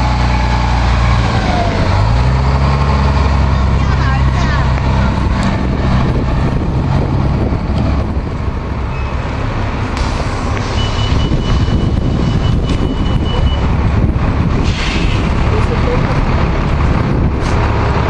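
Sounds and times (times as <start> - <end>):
bus engine running: 0.0 - 18.0.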